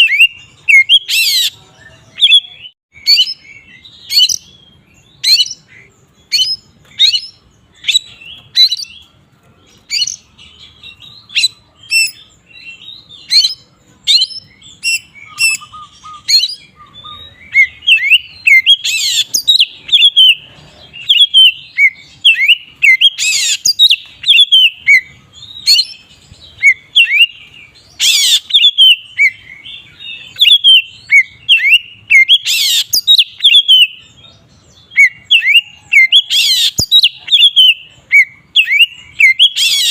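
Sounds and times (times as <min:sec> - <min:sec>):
songbird singing whistles and warble: 0:00.0 - 0:39.9.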